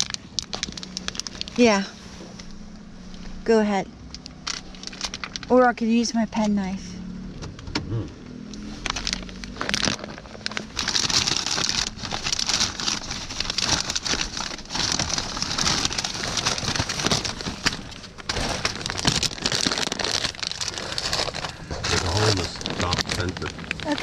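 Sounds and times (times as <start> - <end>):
plastic bag crinkling: 0.0 - 2.6, 4.0 - 6.0, 8.6 - 24.0.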